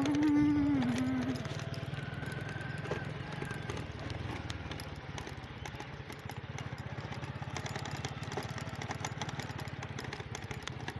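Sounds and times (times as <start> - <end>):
small engine running: 0.0 - 10.9.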